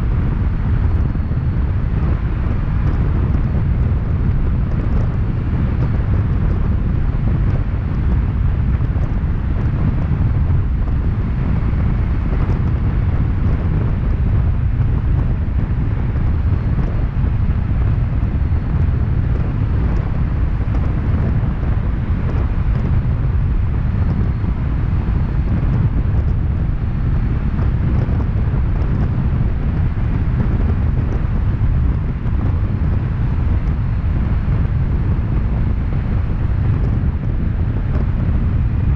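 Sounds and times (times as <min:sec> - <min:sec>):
car road noise: 0:00.0 - 0:38.9
wind buffeting microphone: 0:00.0 - 0:38.9.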